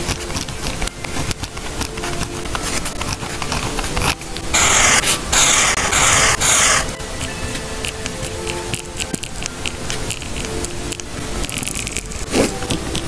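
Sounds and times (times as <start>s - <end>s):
pen scratching on paper: 0.0s - 13.0s.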